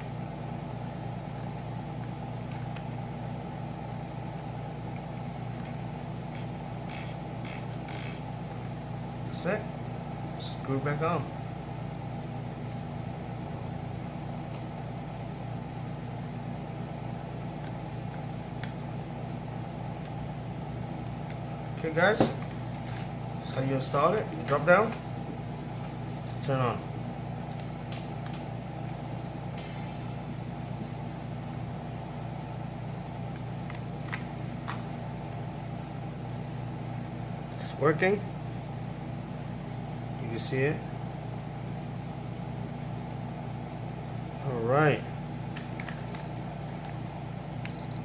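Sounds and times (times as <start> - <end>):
air conditioner humming: 0.0 - 48.0.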